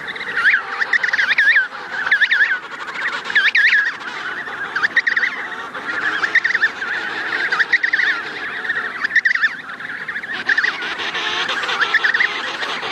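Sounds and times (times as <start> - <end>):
penguins calling: 0.1 - 12.9.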